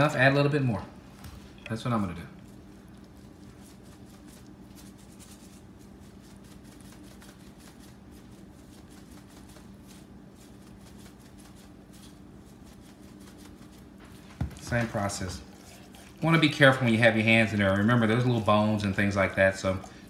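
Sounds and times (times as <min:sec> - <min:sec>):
steady low hum: 0:00.0 - 0:20.0
seasoning shaker granules pattering: 0:01.8 - 0:19.9.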